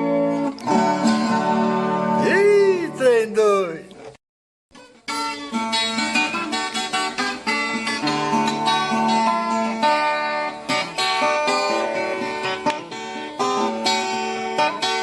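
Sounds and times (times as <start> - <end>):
plucked folk guitar: 0.0 - 4.2, 4.8 - 15.0.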